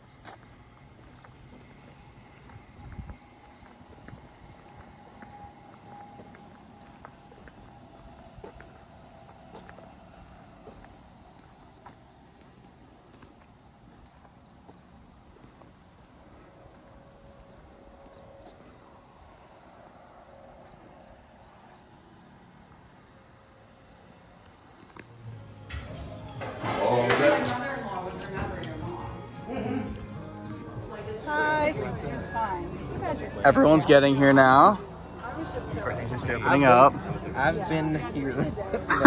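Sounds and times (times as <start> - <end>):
crickets chirping: 0.0 - 28.0, 28.6 - 39.0.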